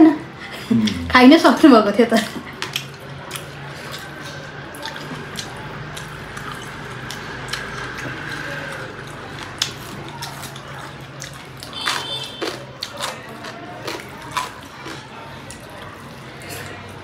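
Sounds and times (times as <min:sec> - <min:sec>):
wet chewing and lip-smacking: 0:02.4 - 0:17.0.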